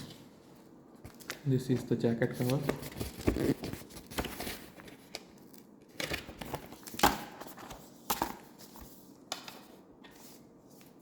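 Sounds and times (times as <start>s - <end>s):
paper and card rustling: 1.1s - 11.0s.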